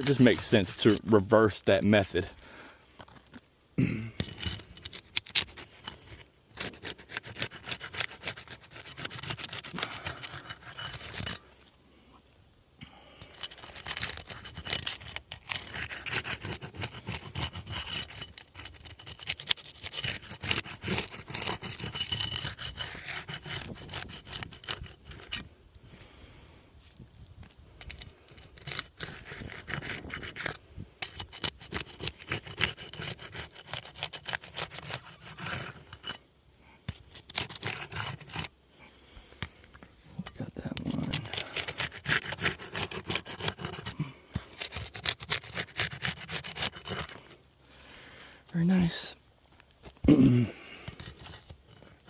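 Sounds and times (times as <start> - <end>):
pry bar scraping shingles: 0.0 - 11.8, 13.1 - 25.5, 26.9 - 52.0.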